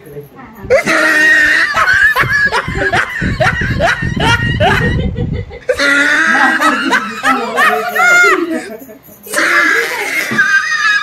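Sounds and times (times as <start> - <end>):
voices: 0.0 - 11.0
woman laughing: 0.7 - 11.0.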